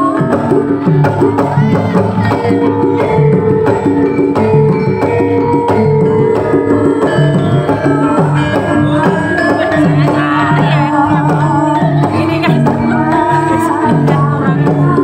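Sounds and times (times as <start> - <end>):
bronze metallophones playing: 0.0 - 15.0.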